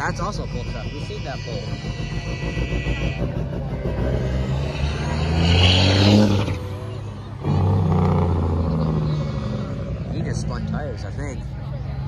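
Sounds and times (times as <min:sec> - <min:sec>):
diesel truck engine accelerating: 0:00.0 - 0:12.0.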